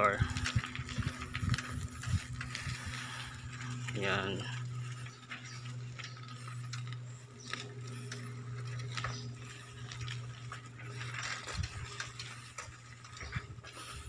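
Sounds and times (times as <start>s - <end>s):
footsteps on gravel: 0.0s - 14.0s
steady low hum: 0.0s - 14.0s.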